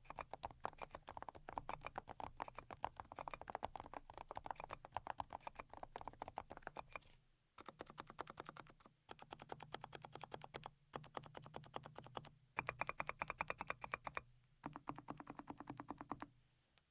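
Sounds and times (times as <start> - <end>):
fast mechanical keyboard typing: 0.0 - 7.0, 7.6 - 16.3.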